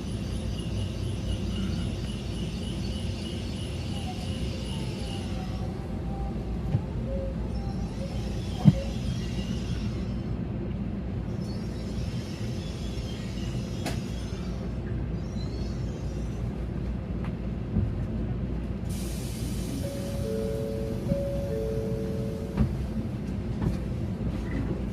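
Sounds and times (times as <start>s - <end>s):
train rumbling on rails: 0.0s - 24.9s.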